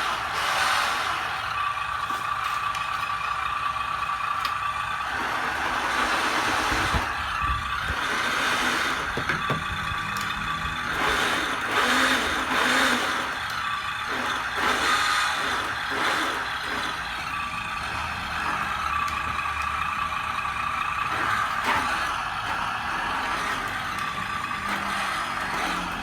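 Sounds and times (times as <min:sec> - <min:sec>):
toy truck electric motor whine: 0:00.0 - 0:26.0.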